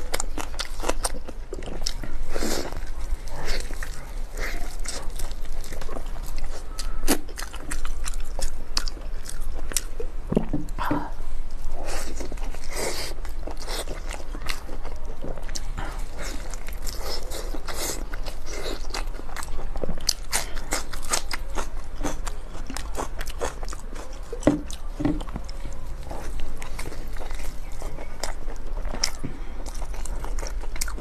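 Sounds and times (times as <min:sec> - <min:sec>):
crunchy chewing: 0:00.0 - 0:31.0
crust crackling: 0:00.0 - 0:31.0.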